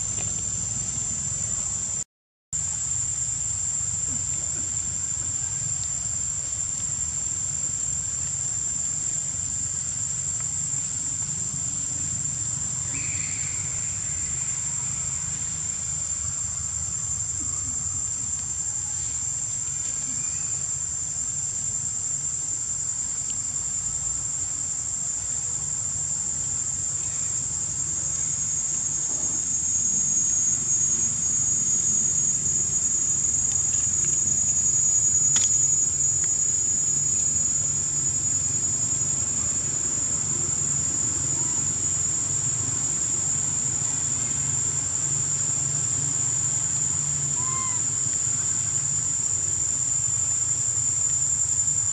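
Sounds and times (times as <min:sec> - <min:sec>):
high-pitched insect drone: 0:00.0 - 0:02.0, 0:02.6 - 0:51.9.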